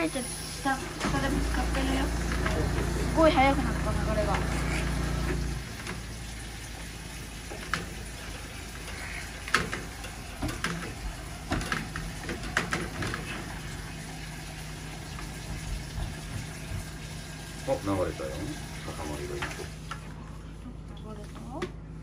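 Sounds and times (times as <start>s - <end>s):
water rushing through pipe: 0.0s - 20.4s.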